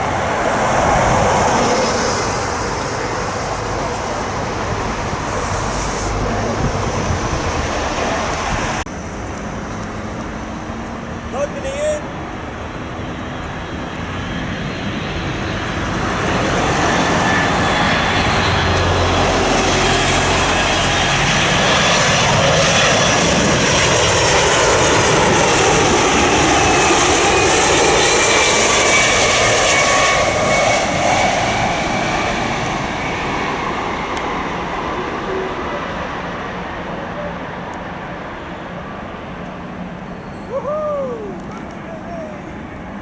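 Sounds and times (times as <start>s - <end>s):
jet airliner flying past: 0.0s - 43.0s.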